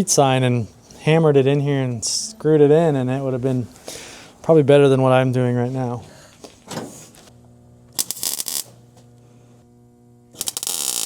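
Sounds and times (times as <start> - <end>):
low electrical hum: 0.0 - 11.0
welder crackling: 0.0 - 11.0.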